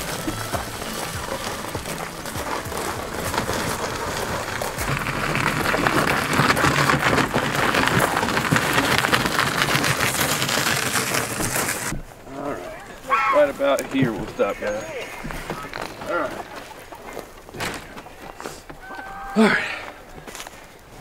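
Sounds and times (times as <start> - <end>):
cart wheels crunching on gravel: 0.0 - 21.0
footsteps on gravel: 0.0 - 21.0.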